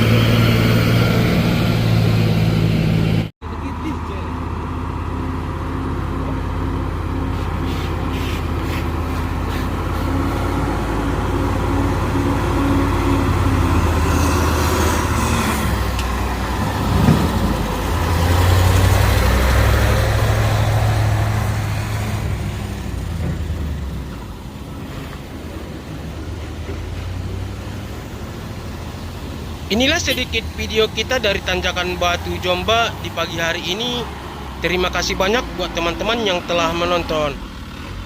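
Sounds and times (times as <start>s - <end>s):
heavy vehicle engine climbing hill: 0.0s - 38.0s.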